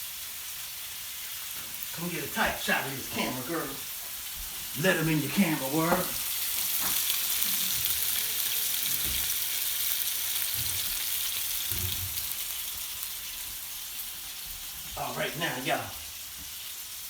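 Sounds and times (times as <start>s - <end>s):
fish sizzling in a skillet: 0.0s - 17.0s.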